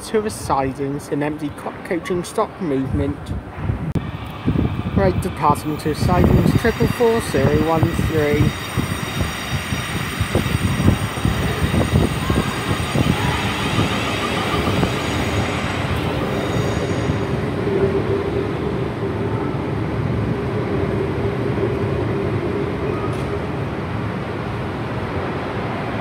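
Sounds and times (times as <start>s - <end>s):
electric train whine: 4.0s - 26.0s.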